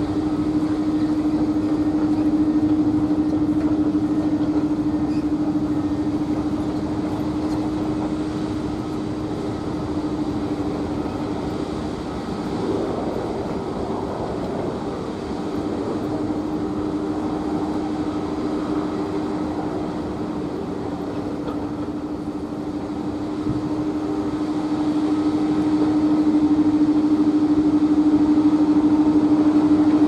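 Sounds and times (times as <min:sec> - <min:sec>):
jet engines whining: 0:00.0 - 0:30.0.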